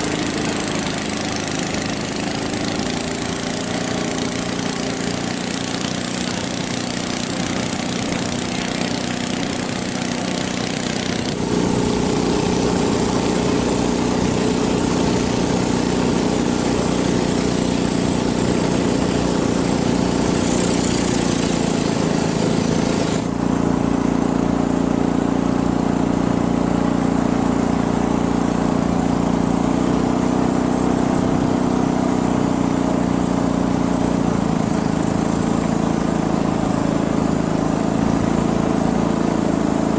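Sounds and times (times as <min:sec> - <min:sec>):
motorboat engine running: 0:00.0 - 0:39.9
water and wind hiss: 0:00.0 - 0:39.9.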